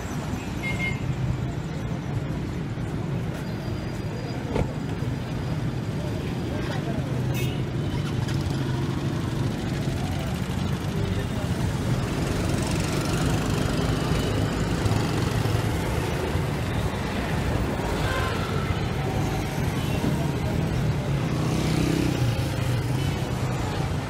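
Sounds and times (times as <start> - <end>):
traffic passing: 0.0 - 24.0
vehicle engine and road noise: 0.0 - 24.0.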